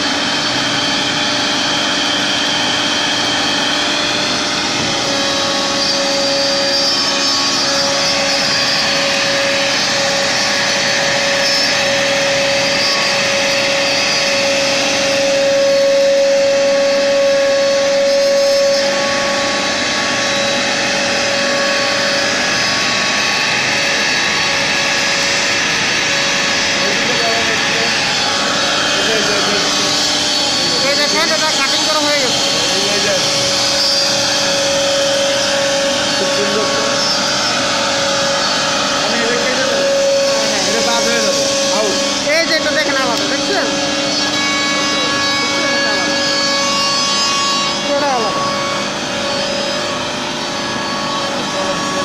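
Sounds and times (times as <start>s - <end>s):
dust blower rushing: 0.0s - 52.0s
router spindle whine: 0.0s - 52.0s.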